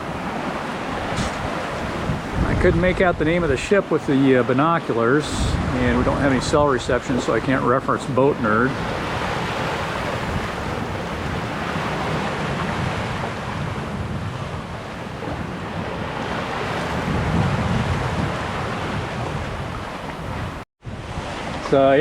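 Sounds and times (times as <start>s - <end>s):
water washing past boat hull: 0.0s - 22.0s
wind rushing over microphone: 0.0s - 22.0s.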